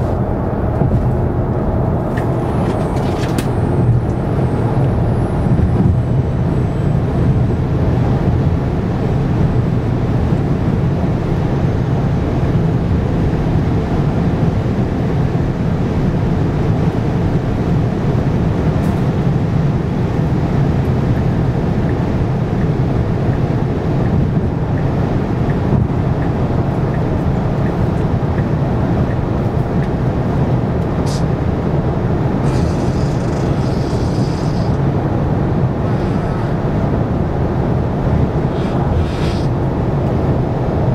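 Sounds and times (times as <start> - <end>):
road and tyre noise: 0.0 - 40.9
wind rush in car cabin: 0.0 - 40.9.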